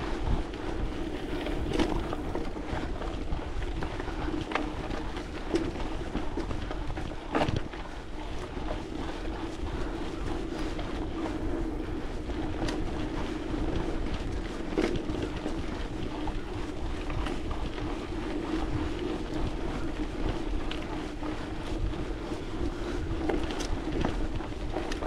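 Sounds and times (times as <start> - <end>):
steady low hum: 0.0 - 25.0
wind buffeting microphone: 0.0 - 25.0.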